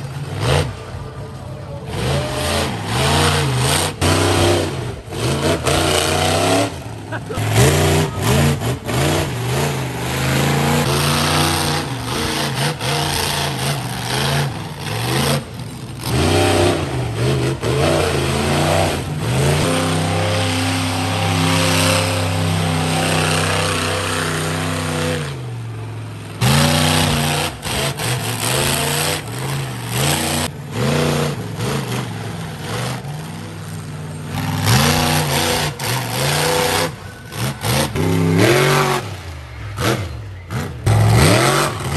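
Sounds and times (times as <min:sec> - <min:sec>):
truck engine revving hard: 0:00.0 - 0:41.9.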